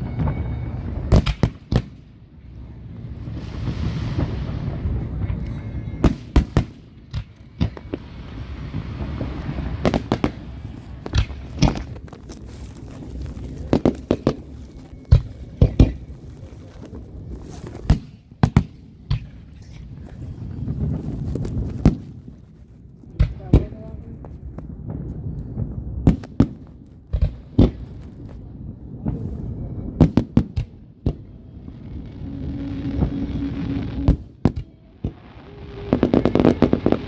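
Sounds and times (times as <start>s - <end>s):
fireworks hissing: 0.0s - 22.6s, 27.3s - 37.0s
low rumble: 0.0s - 26.2s, 26.8s - 37.0s
fireworks bangs: 0.0s - 37.0s.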